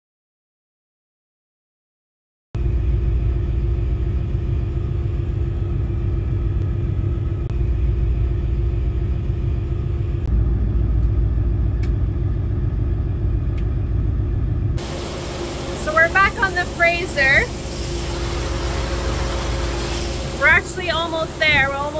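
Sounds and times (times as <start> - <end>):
boat low rumble: 2.6 - 21.9
faint steady hum: 2.6 - 21.9.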